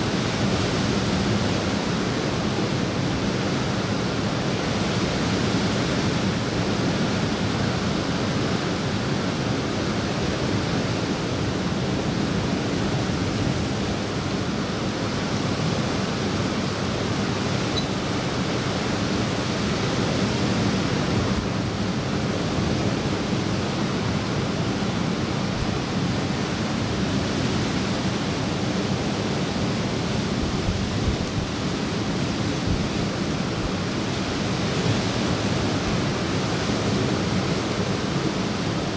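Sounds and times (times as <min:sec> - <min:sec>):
light rain on a pool: 0:00.0 - 0:38.9
sea surf: 0:00.0 - 0:38.9.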